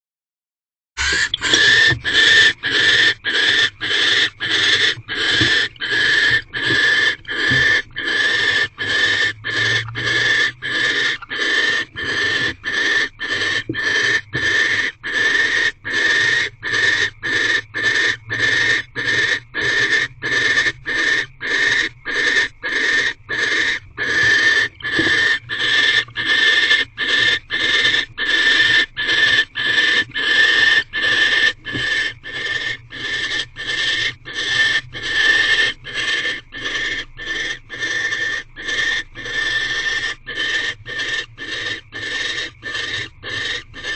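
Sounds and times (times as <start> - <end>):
barn owls hissing begging calls: 1.0 - 43.9.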